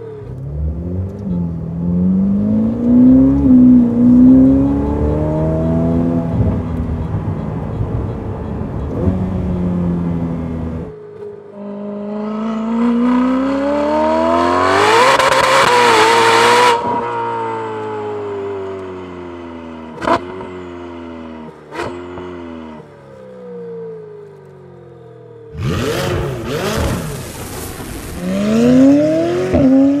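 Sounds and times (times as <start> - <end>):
sports car engine accelerating: 0.0 - 30.0.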